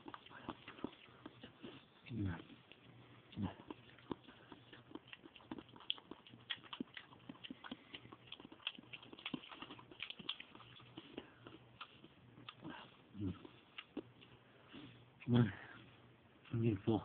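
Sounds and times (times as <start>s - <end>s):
person eating wet smacking: 0.0s - 1.9s, 2.6s - 14.4s.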